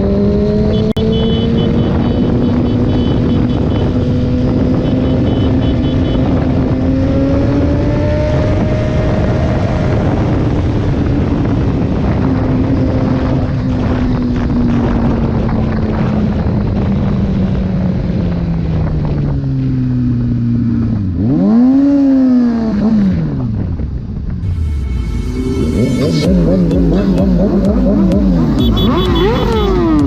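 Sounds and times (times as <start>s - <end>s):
wind rush on microphone: 0.0s - 28.6s
motorcycle engine cruising: 0.0s - 30.0s.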